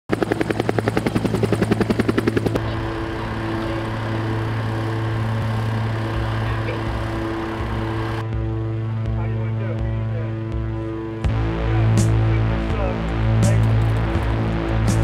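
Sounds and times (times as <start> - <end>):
helicopter rotor beating: 0.1 - 15.0
steady low drone: 0.1 - 15.0.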